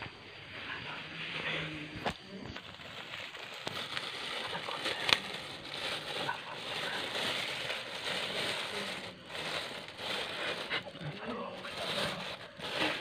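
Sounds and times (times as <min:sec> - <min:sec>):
plastic bags crinkling: 0:02.1 - 0:13.0.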